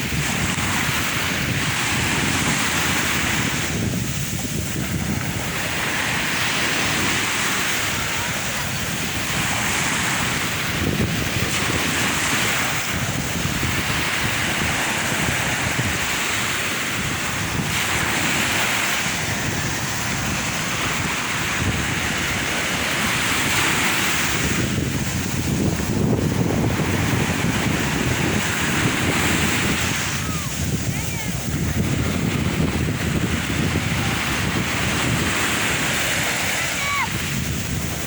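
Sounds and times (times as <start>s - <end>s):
sea waves breaking: 0.0s - 38.0s
wind rumbling on microphone: 0.0s - 38.0s.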